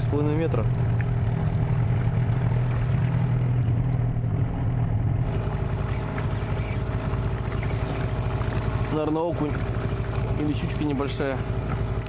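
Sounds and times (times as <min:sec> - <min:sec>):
outboard motor running: 0:00.0 - 0:12.0
water noise: 0:00.0 - 0:12.0
wind: 0:00.0 - 0:12.0.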